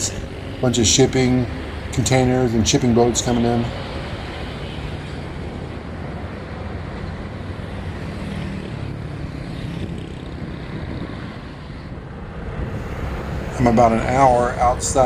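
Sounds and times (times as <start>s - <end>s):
motorbike engine hum: 0.0s - 15.0s
wind and road noise: 0.0s - 15.0s.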